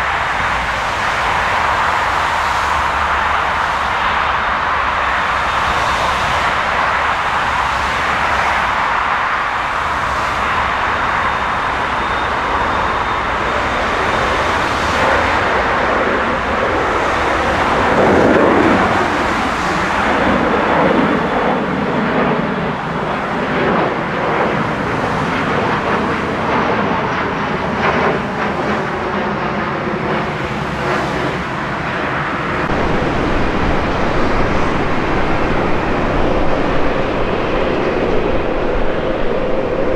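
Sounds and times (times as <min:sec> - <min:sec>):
jet airliner engine roar: 0:00.0 - 0:39.9.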